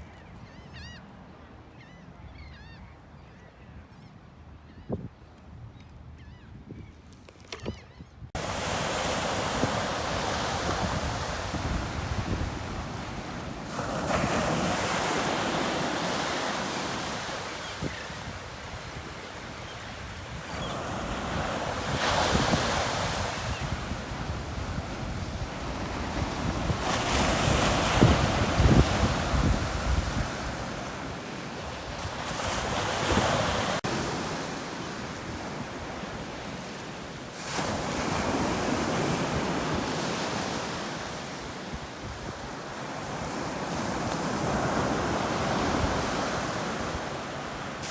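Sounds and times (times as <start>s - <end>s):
waves breaking on shore: 8.4s - 47.9s.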